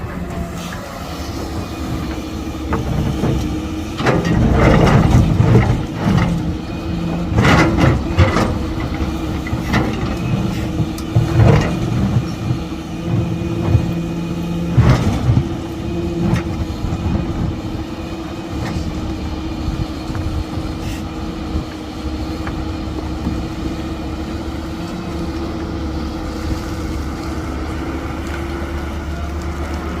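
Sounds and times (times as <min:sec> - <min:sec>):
heavy machine engine running: 0:00.0 - 0:30.0.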